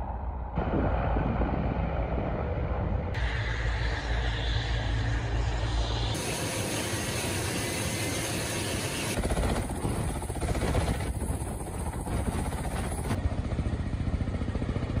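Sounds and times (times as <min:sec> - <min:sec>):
helicopter rotor beating: 0:00.6 - 0:15.0.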